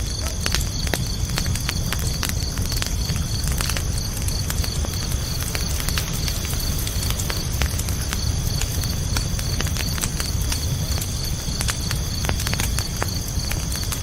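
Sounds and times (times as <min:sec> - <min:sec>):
campfire crackling and popping: 0:00.0 - 0:14.0
crickets chirping: 0:00.0 - 0:14.0.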